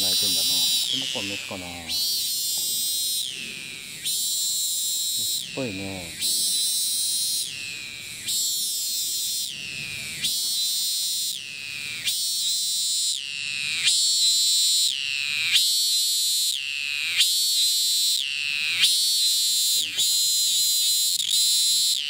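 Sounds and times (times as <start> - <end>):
cicada calling: 0.0 - 22.0.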